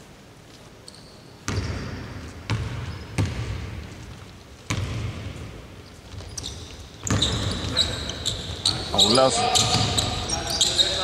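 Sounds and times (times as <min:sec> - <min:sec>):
basketball bouncing on indoor court: 0:01.0 - 0:11.0.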